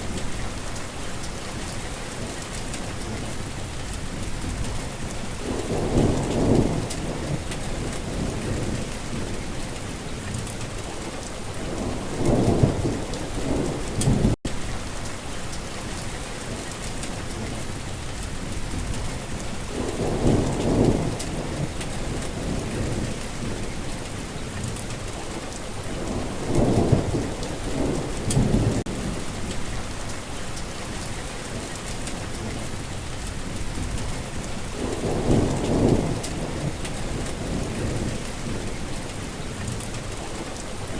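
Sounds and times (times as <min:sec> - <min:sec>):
heavy rain falling: 0:00.0 - 0:40.9
thunder rumbling: 0:02.8 - 0:15.0, 0:18.4 - 0:30.1, 0:31.5 - 0:40.9.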